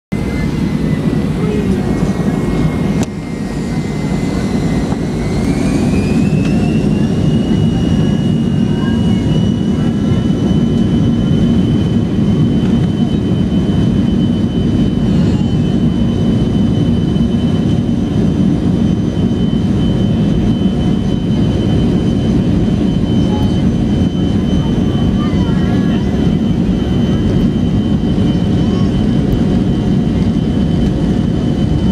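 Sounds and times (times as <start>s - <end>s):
jet engine whine: 0.1s - 31.9s
jet engines rumbling: 0.1s - 31.9s.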